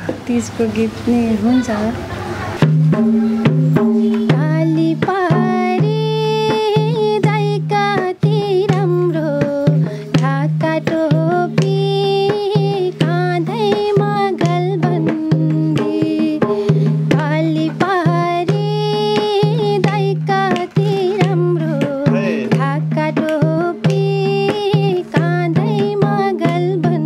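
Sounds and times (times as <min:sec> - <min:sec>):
hand drum rhythm: 0:01.2 - 0:27.0
woman singing folk song: 0:04.1 - 0:27.0.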